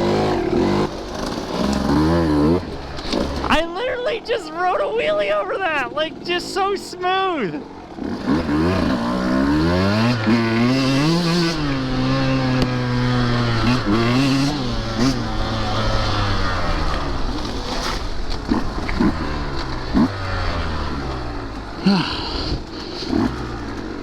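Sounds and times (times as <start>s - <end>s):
dirt bike engine revving: 0.0s - 6.5s, 7.2s - 24.0s.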